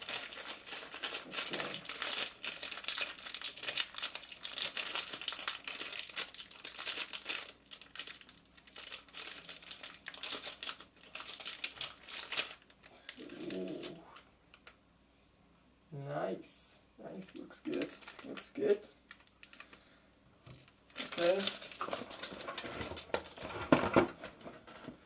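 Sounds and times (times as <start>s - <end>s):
packaging crinkling and rustling: 0.0s - 14.8s, 17.3s - 19.8s, 20.4s - 25.0s.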